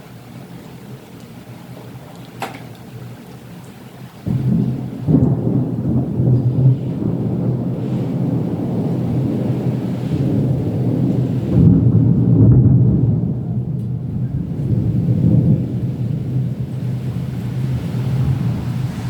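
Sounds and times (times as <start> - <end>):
rain: 0.0 - 19.0
thunder rumbling: 0.0 - 19.0.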